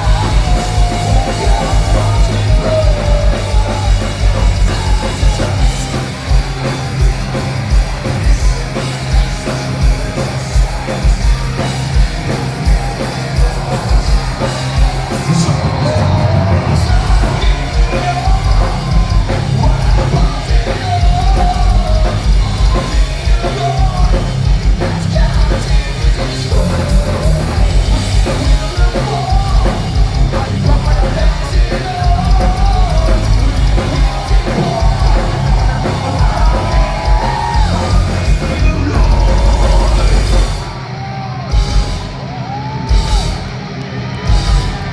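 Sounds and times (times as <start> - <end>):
distorted guitars: 0.0 - 44.9
fast pounding drums: 0.0 - 44.9
shouted and sung vocals: 0.0 - 44.9.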